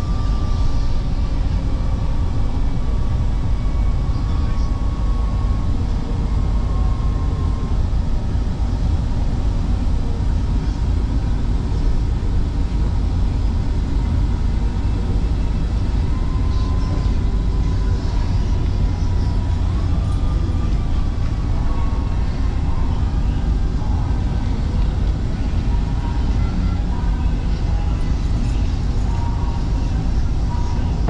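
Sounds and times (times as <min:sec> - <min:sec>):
faint train whine: 0:00.0 - 0:31.0
light-rail train rumbling: 0:00.0 - 0:31.0.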